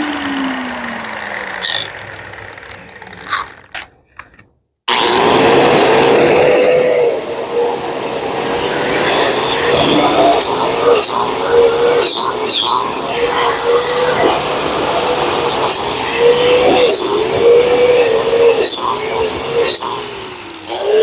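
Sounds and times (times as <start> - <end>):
angle grinder whining: 0.0 - 21.0
wire wheel brushing metal: 0.0 - 21.0.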